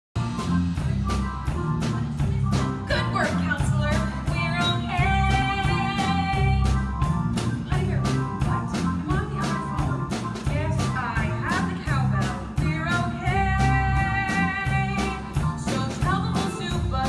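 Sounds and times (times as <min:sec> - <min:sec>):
live rock band playing: 0:00.2 - 0:17.0
woman singing: 0:00.8 - 0:06.9, 0:07.5 - 0:17.0.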